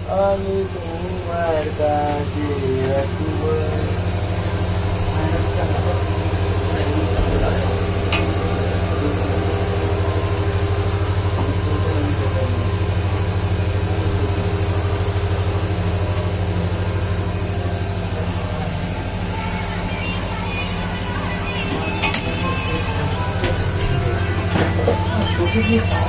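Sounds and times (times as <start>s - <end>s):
cutting machine motor humming: 0.0s - 26.0s.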